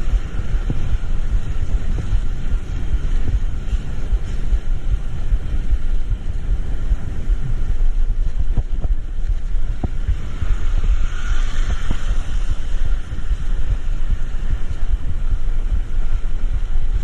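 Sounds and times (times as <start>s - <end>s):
vehicle rumbling on road: 0.0s - 17.0s
wind buffeting microphone: 0.0s - 17.0s.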